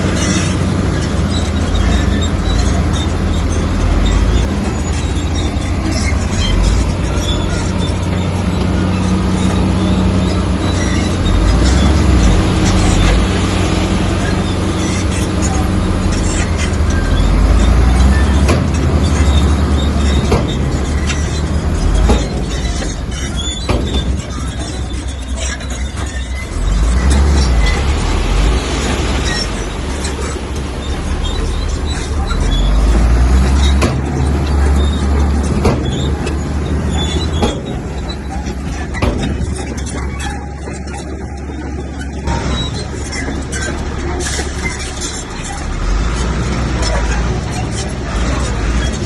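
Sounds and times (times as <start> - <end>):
bulldozer diesel engine rumbling: 0.0 - 49.0
metallic knocks and clanks: 0.0 - 49.0.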